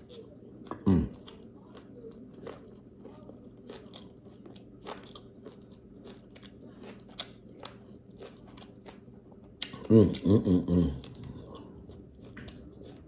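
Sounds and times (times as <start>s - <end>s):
faint steady hum: 0.0s - 13.0s
person chewing food: 0.0s - 13.0s.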